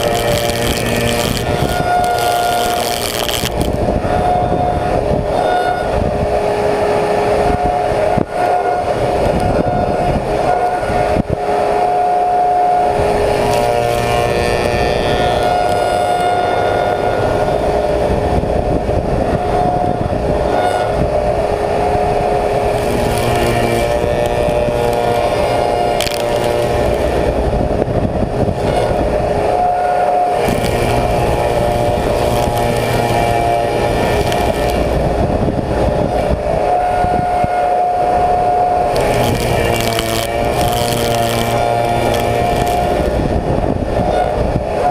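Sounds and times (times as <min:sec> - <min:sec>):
surfacing machine running: 0:00.0 - 0:44.9.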